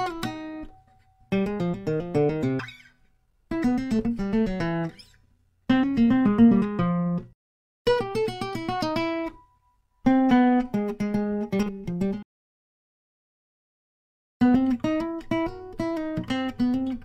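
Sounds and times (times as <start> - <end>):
plucked guitar music: 0.0 - 12.2, 14.4 - 17.0.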